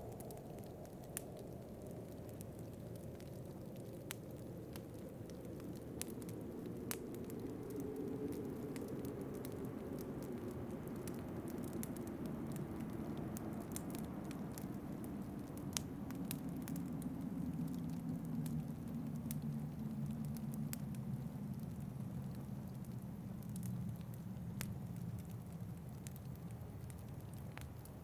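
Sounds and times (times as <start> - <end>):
low howling wind: 0.0 - 28.0
wood fire crackling and popping: 0.0 - 28.0.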